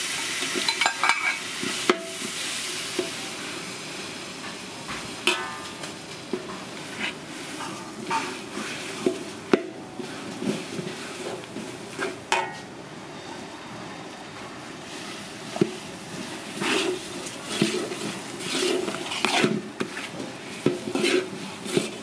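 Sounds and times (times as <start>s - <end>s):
faint sizzle: 0.0s - 22.0s
metal spatula scraping wok: 0.1s - 3.2s, 5.2s - 12.7s, 14.8s - 22.0s.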